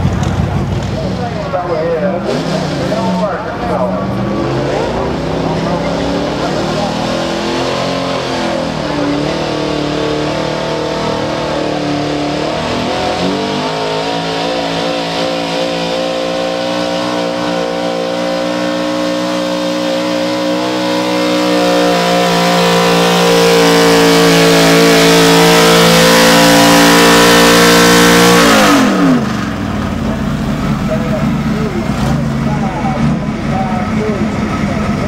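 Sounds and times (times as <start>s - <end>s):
truck engine at full throttle: 0.0s - 35.0s.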